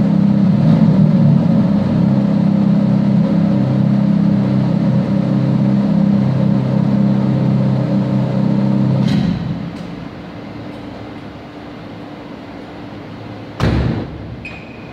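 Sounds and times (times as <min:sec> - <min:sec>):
sports car engine idling: 0:00.0 - 0:14.5.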